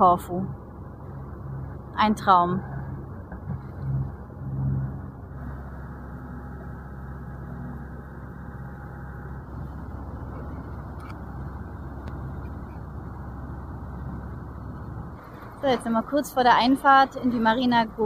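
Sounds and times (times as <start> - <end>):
boat engine droning: 0.0 - 18.0
water rushing along hull: 0.0 - 18.0.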